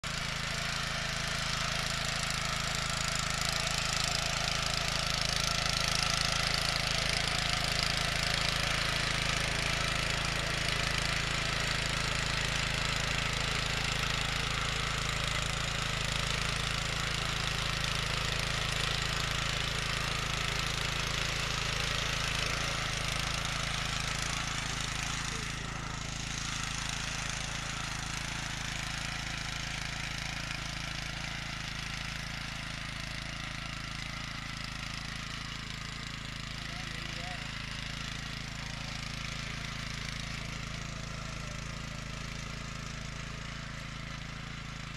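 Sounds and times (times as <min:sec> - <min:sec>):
tiller engine running: 0:00.0 - 0:44.9
tines churning soil: 0:00.0 - 0:44.9.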